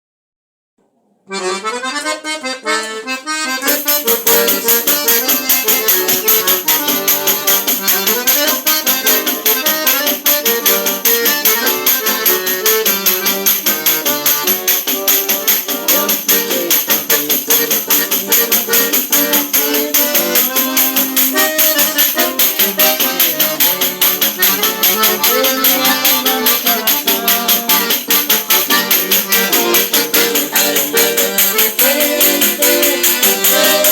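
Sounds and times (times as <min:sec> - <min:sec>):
button accordion: 0:01.3 - 0:33.9.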